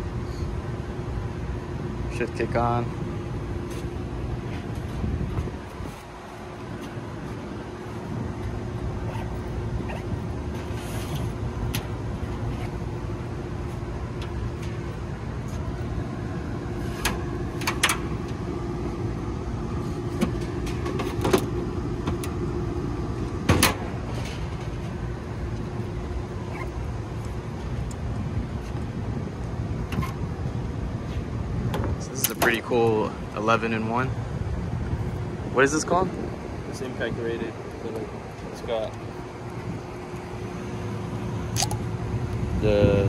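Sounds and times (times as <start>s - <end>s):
air conditioning hum: 0.0s - 43.0s.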